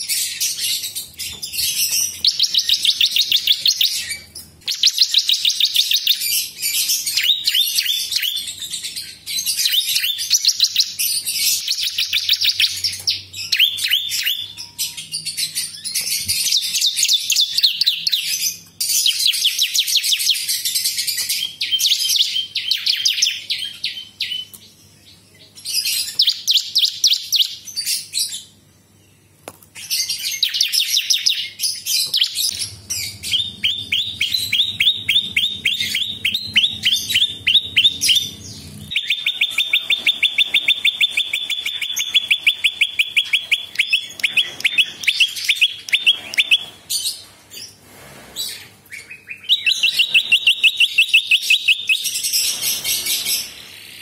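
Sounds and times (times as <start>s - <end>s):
bird singing high trills: 0.0s - 24.5s, 29.9s - 47.2s, 48.5s - 54.0s.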